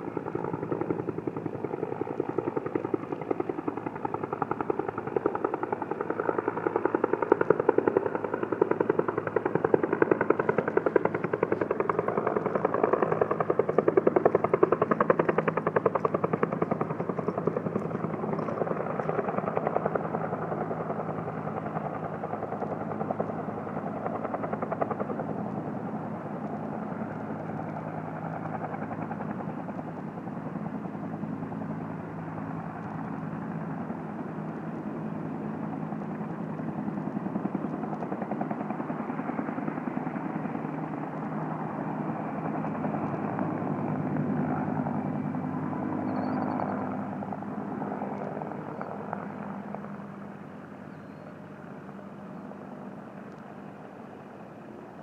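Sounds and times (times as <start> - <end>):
helicopter rotor beating: 0.0 - 55.0.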